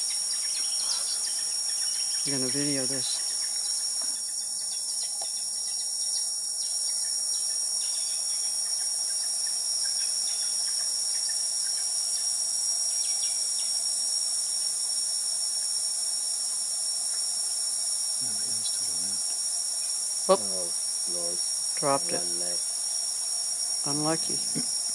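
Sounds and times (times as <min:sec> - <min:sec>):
insect chorus shrill drone: 0:00.0 - 0:24.9.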